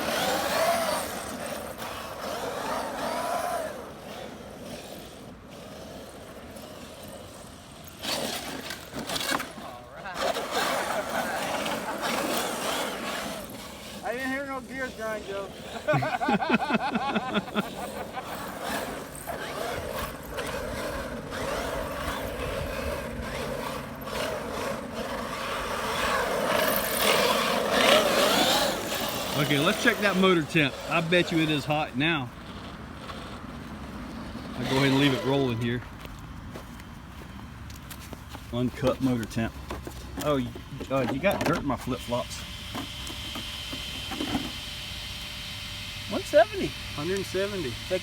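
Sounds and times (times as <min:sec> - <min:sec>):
electric motor whining: 0:00.0 - 0:36.2, 0:38.7 - 0:48.0
tyre noise: 0:00.0 - 0:42.2.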